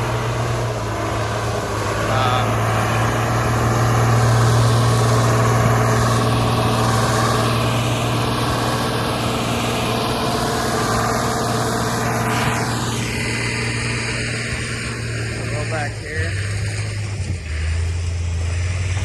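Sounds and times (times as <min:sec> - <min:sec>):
loader diesel engine running: 0:00.0 - 0:19.0.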